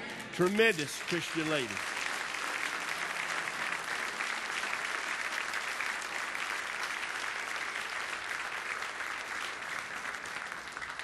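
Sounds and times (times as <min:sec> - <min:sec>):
congregation applauding: 0:00.0 - 0:11.0.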